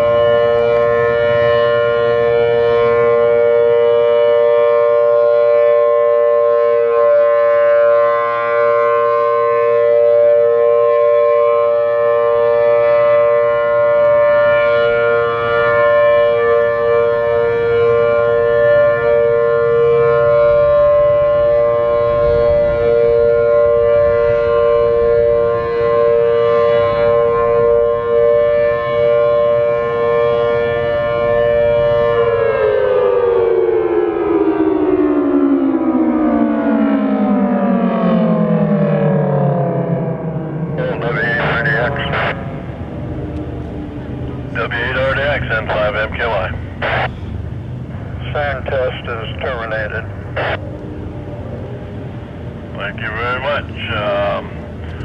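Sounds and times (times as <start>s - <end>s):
rotating warning siren chord: 0.0s - 55.0s.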